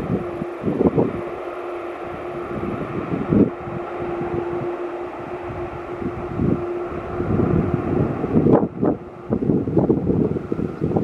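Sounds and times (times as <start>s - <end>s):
jet engines rumbling: 0.0s - 11.0s
wind on microphone: 0.0s - 11.0s.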